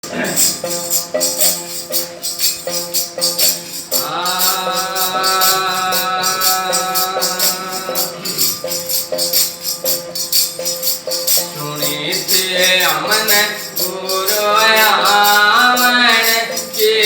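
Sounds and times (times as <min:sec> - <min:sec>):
devotional instrumental music: 0:00.0 - 0:17.0
jingling hand percussion: 0:00.0 - 0:17.0.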